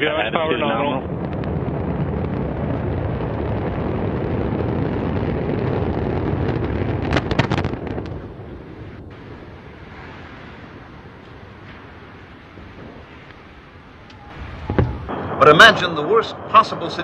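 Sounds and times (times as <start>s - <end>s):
deep rumble of explosion: 0.0s - 17.0s
sharp cracks: 1.0s - 16.2s.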